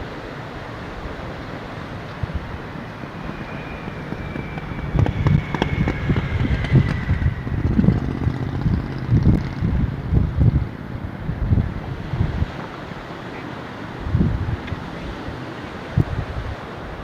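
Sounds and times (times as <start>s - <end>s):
ocean surf: 0.0s - 17.0s
wind buffeting microphone: 0.7s - 17.0s.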